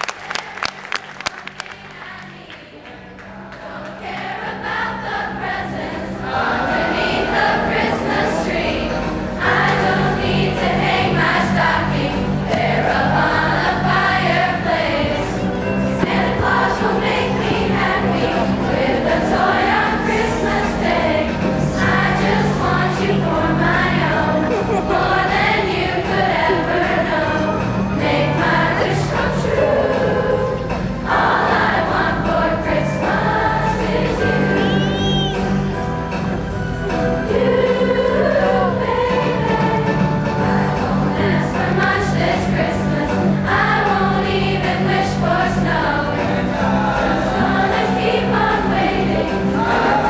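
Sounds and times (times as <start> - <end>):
choir singing: 1.5 - 50.0
instrumental accompaniment: 5.8 - 50.0.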